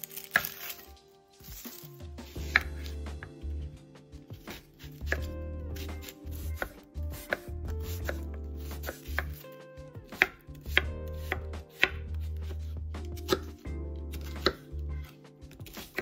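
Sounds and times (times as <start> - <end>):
knife chopping on cutting board: 0.0 - 3.6, 4.3 - 14.8, 15.6 - 16.0.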